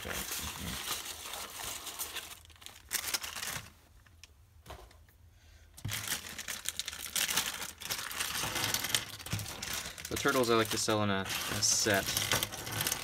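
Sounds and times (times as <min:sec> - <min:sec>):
packing peanuts rustling: 0:00.0 - 0:03.8, 0:05.8 - 0:13.0
plastic bag crinkling: 0:00.0 - 0:03.9, 0:05.8 - 0:13.0.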